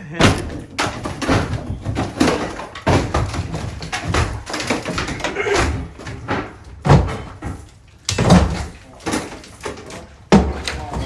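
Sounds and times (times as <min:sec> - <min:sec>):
knocks and bangs of tools: 0:00.1 - 0:11.0.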